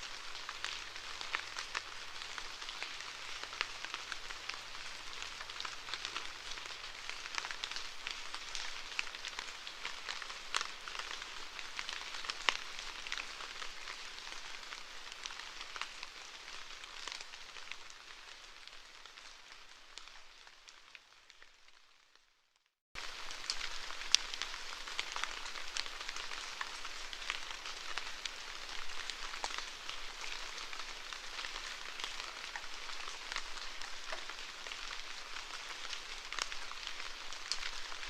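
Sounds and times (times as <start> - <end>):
rain falling: 0.0 - 22.3, 23.0 - 38.0.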